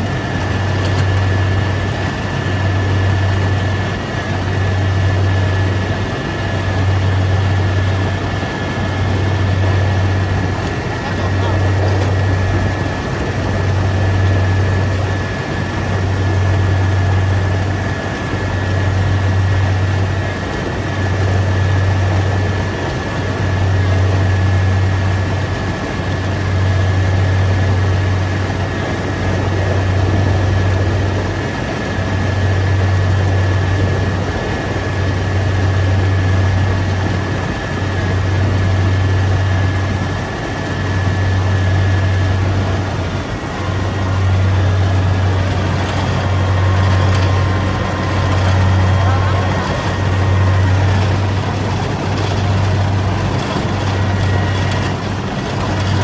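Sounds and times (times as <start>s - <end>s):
harvester engine drone: 0.0s - 56.0s.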